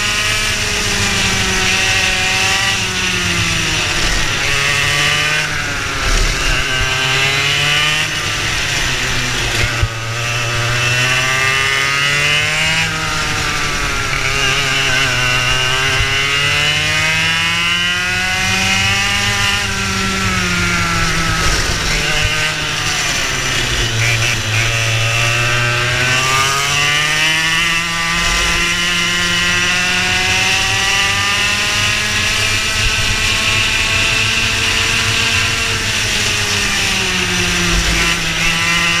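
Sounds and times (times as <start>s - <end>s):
racing kart engine: 0.0s - 39.0s.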